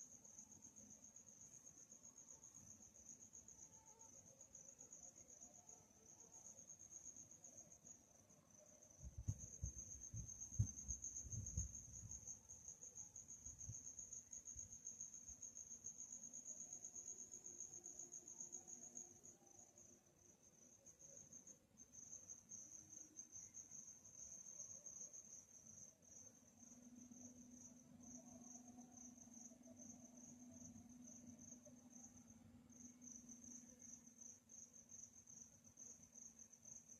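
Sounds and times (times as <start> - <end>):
crickets chirping: 0.0 - 36.9.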